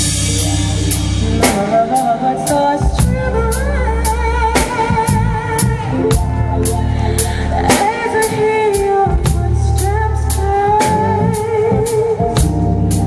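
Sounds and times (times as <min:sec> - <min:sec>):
drums and bass backing track: 0:00.0 - 0:13.0.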